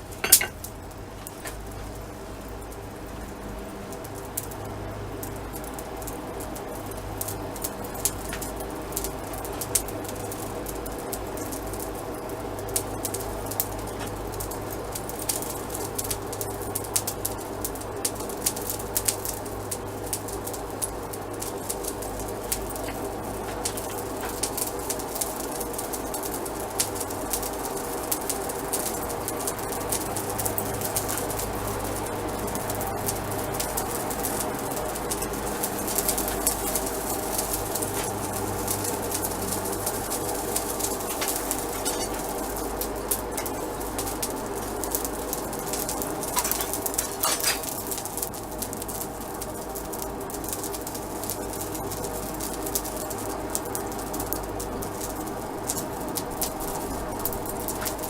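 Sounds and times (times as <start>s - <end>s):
small crackles and pops: 0.0s - 58.0s.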